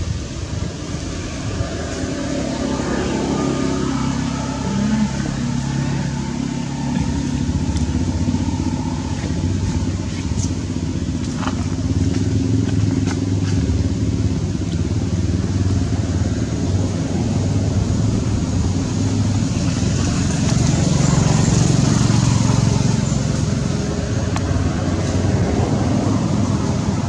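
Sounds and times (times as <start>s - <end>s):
vehicle engine humming: 0.0s - 27.0s.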